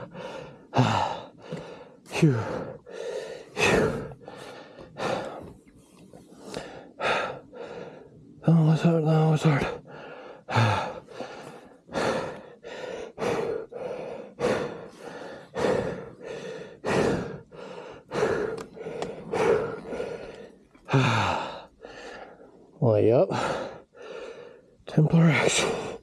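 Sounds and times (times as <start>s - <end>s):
man breathing hard: 0.0s - 8.5s, 9.4s - 22.7s, 23.3s - 26.0s.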